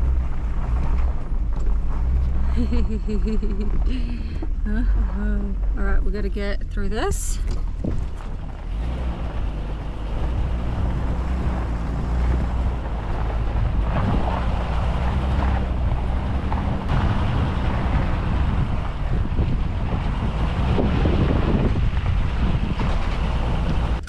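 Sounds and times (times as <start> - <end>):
engine droning under load: 0.0 - 24.0
knocks and rattles: 0.0 - 24.0.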